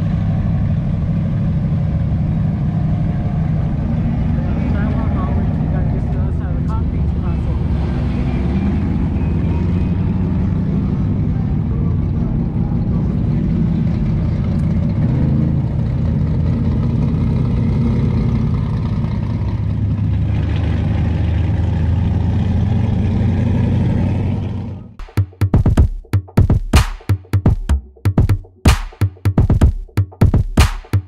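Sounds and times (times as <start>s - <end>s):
car engines rumbling past: 0.0s - 25.0s.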